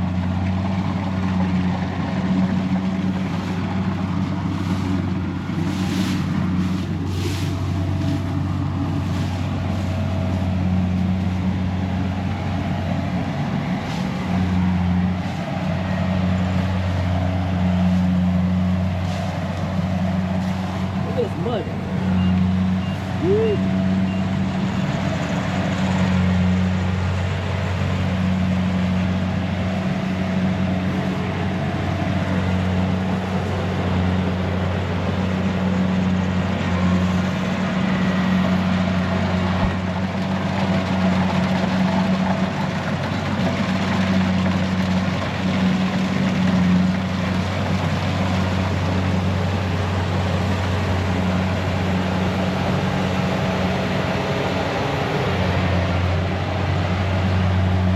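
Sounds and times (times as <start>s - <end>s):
combine harvester engine droning: 0.0s - 57.9s.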